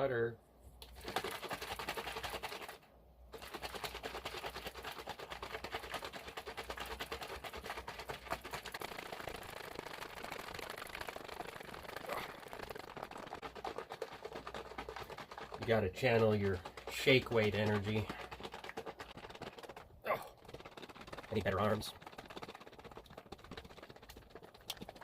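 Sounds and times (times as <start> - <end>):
cream sloshing in shaken container: 0.8 - 25.0.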